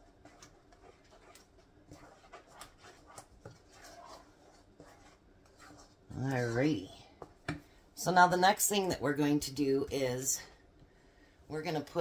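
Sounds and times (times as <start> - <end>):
wooden spoon stirring in a pot: 0.0 - 10.8.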